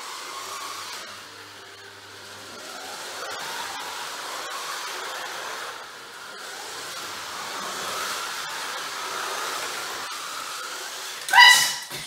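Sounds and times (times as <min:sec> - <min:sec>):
slot car motors whirring: 0:00.0 - 0:11.9.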